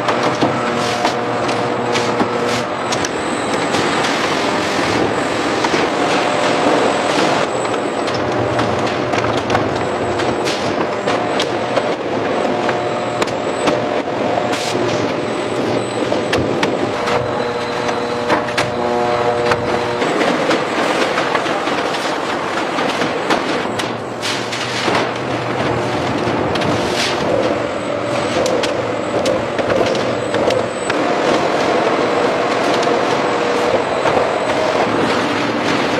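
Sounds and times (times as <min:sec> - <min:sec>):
factory machinery clatter: 0:00.0 - 0:35.9
steady machine hum: 0:00.0 - 0:35.9.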